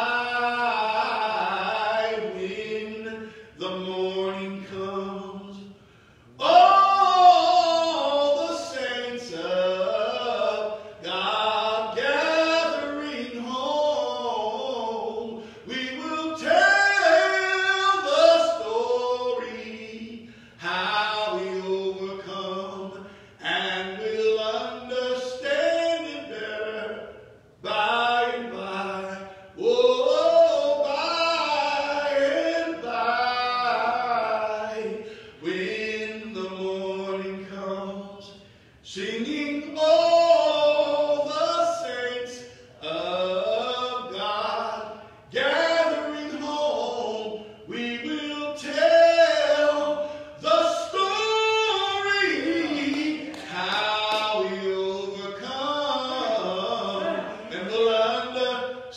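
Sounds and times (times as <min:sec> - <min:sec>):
man singing a cappella: 0:00.0 - 0:58.9.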